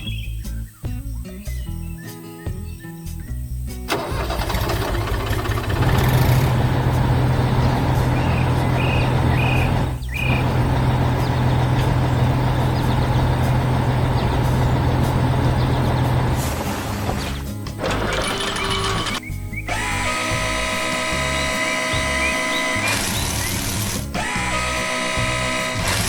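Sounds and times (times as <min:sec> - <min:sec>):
truck engine running: 0:03.9 - 0:26.0.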